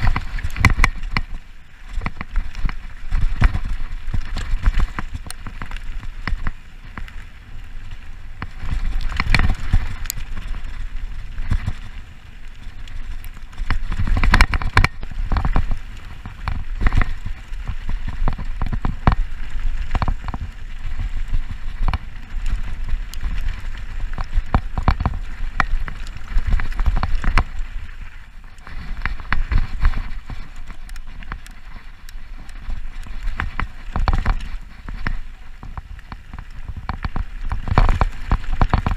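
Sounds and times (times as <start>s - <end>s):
bike clattering over bumps: 0.0s - 38.9s
bike tyres rumbling on dirt: 0.0s - 38.9s.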